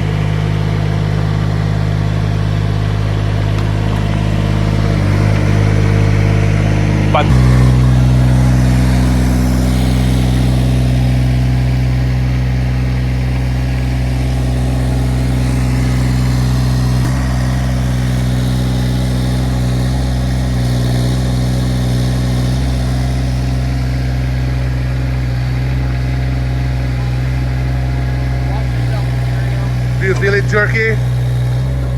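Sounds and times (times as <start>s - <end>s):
mini excavator diesel engine running: 0.0s - 31.9s.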